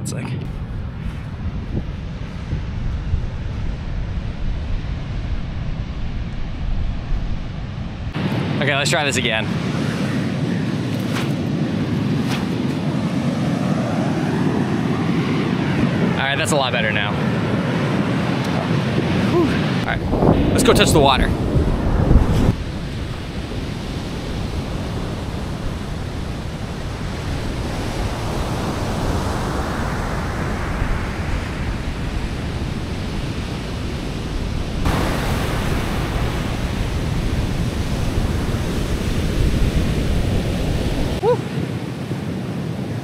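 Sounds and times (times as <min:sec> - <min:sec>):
wind buffeting microphone: 0:00.0 - 0:08.6, 0:09.2 - 0:43.0
surf breaking on beach: 0:08.1 - 0:42.9.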